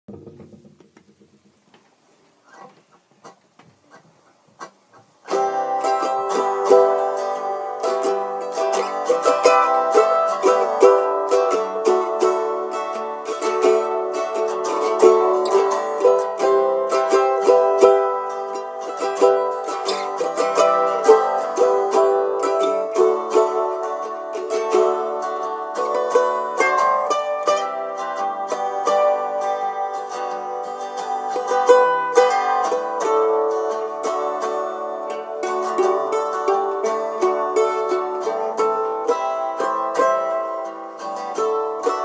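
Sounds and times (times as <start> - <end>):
mandolin picked tune: 0.1 - 42.0.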